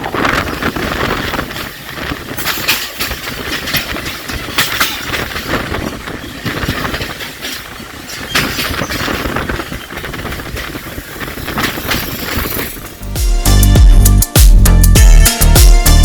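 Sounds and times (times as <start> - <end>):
wheels clicking over rail joints: 0.0 - 13.1
train rumbling on track: 0.0 - 14.2.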